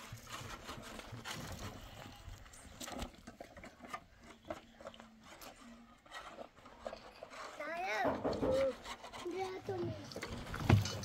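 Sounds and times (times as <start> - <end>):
rubbing and scraping: 0.0 - 11.0.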